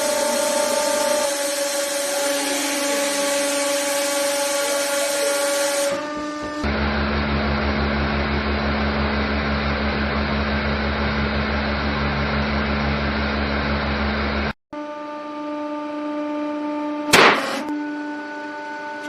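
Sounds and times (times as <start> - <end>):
hydraulic press motor humming: 0.0 - 19.0
steady whine: 0.0 - 19.0.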